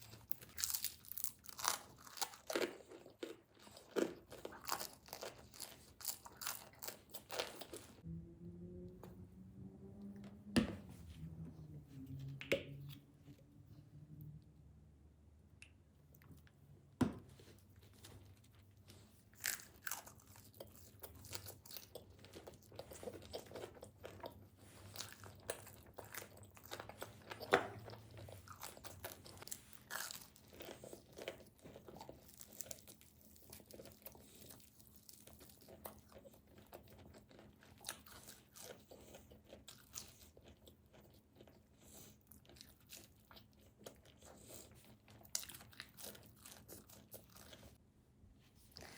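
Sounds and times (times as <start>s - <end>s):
chewing with crisp crunching: 0.0s - 8.0s, 15.6s - 47.9s, 48.5s - 48.9s.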